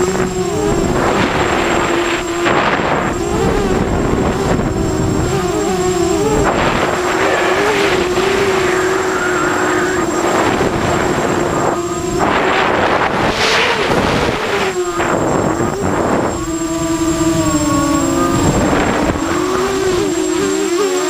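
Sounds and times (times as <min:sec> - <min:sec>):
rushing noise: 0:00.0 - 0:20.6
quadcopter propellers whining: 0:00.0 - 0:21.0.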